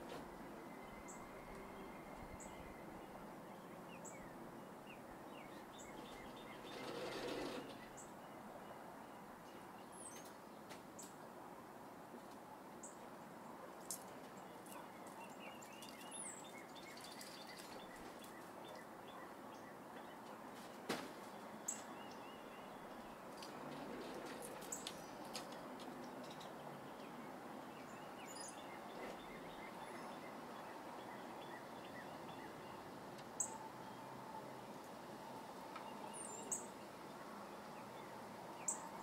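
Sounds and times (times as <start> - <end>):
faint outdoor background noise: 0.0 - 39.0.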